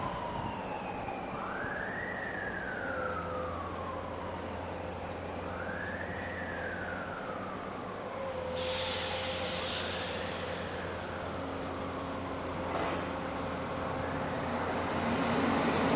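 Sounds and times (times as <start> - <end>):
emergency vehicle siren wailing: 0.0 - 15.9.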